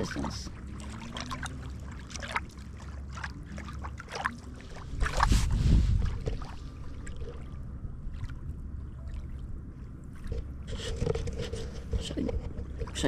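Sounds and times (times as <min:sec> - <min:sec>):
low rumble: 0:00.0 - 0:13.0
ripples lapping on sandy shore: 0:00.0 - 0:13.0.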